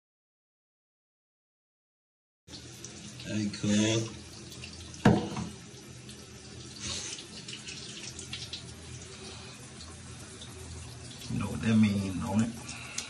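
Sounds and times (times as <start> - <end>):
shower water running into bathtub: 2.5 - 13.0.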